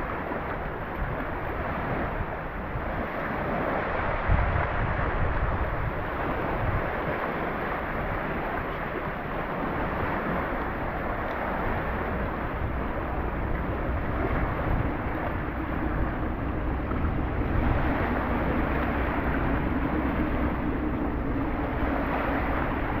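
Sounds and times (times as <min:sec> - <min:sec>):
waves washing onto sandy shore: 0:00.0 - 0:23.0
wind rumbling on microphone: 0:00.0 - 0:23.0.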